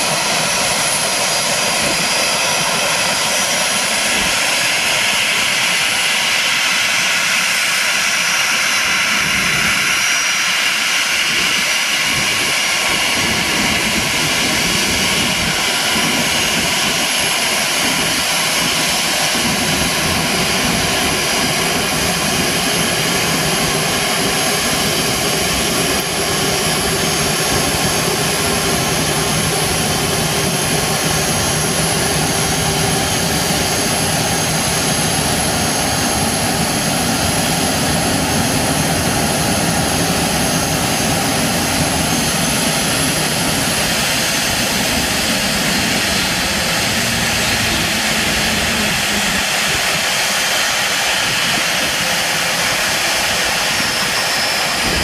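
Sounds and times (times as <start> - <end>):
jet engine whine and rush: 0.0 - 55.0.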